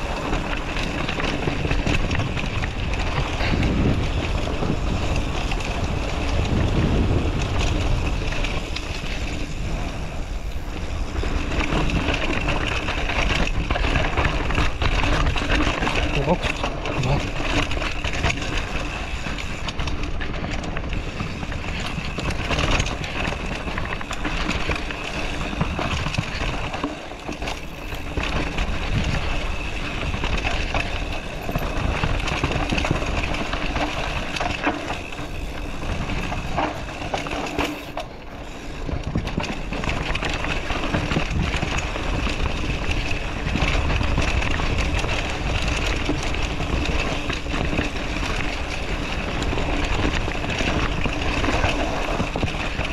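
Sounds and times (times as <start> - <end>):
bike rumble and clatter on trail: 0.0 - 52.9
wind noise on microphone: 0.0 - 52.9.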